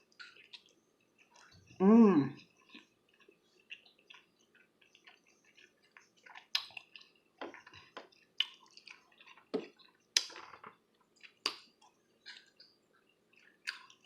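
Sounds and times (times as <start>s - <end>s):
wet chewing and mouth smacks: 0.0s - 1.8s, 2.4s - 14.0s.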